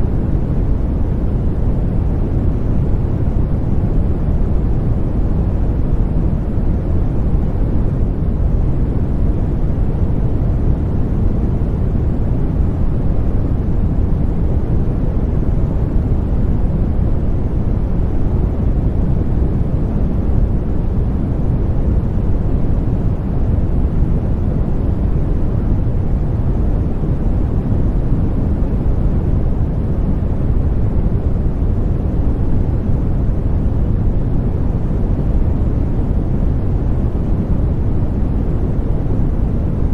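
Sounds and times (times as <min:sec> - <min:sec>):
deep white noise: 0:00.0 - 0:39.9.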